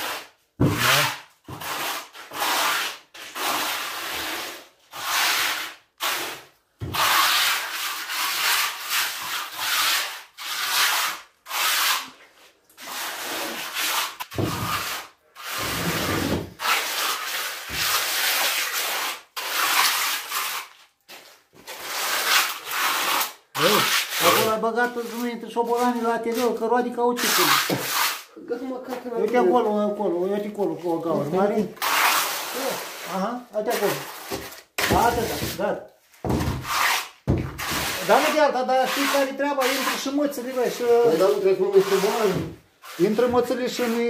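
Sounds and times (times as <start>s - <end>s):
hand tool scraping concrete: 0.0s - 30.0s, 30.6s - 35.6s, 36.2s - 44.0s.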